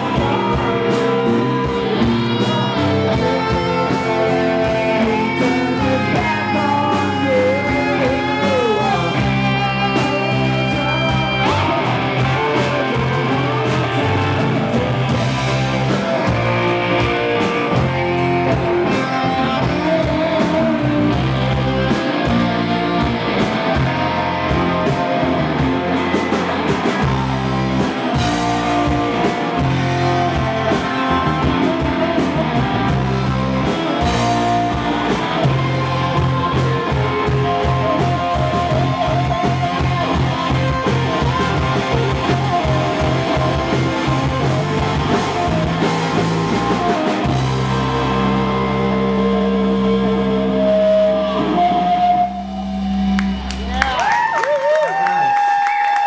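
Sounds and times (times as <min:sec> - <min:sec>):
steady drum beat: 0:00.0 - 0:48.9
bass guitar: 0:00.0 - 0:56.0
electric guitar: 0:00.0 - 0:56.0.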